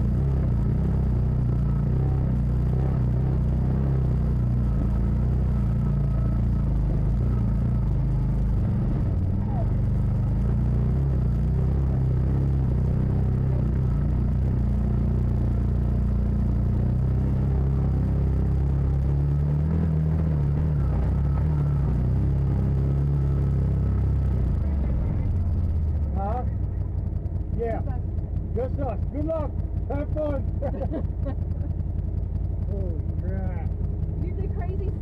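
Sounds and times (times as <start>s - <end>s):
vehicle engine running steadily: 0.0s - 35.0s.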